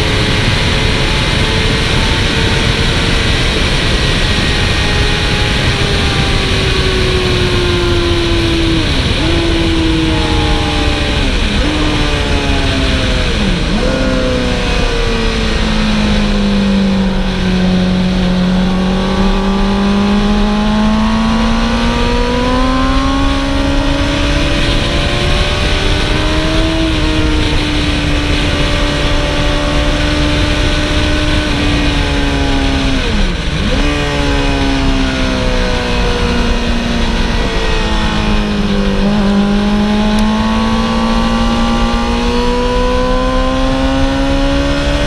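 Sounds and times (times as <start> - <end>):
sport bike engine running hard: 0.0 - 45.0
wind and road noise: 0.0 - 45.0.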